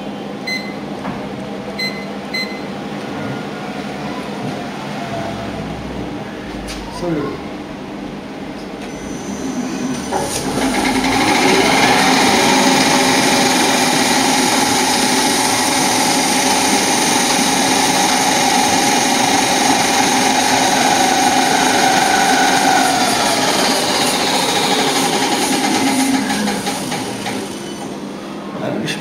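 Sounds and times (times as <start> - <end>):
rewinding machine whining: 4.8 - 28.4.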